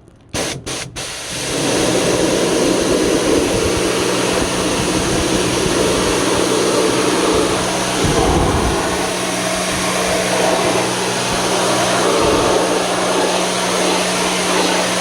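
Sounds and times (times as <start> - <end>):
cleaning machine motor running: 0.4 - 15.0.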